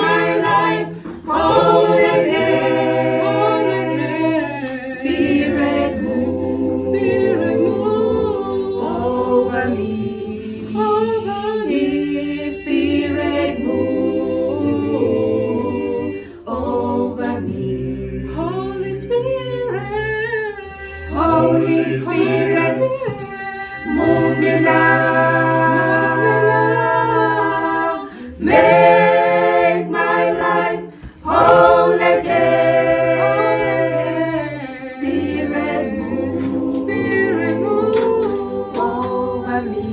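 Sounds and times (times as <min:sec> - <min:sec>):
group singing unaccompanied: 0:00.0 - 0:39.9.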